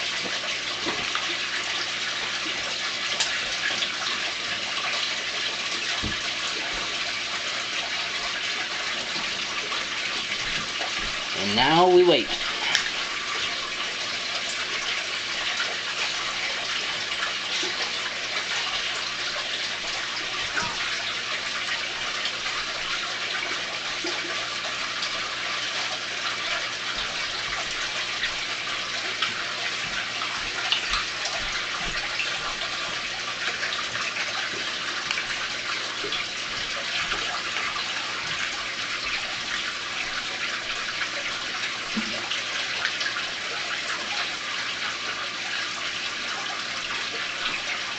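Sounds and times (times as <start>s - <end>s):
water pouring from a hose: 0.0s - 47.9s
water splashing in a tank: 0.0s - 47.9s.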